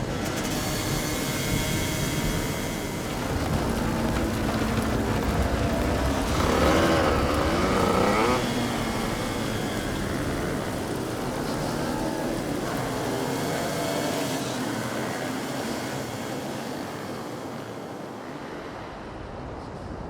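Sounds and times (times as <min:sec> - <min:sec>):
motorcycle revving: 0:00.0 - 0:17.0
motorcycle engines running: 0:00.0 - 0:18.1.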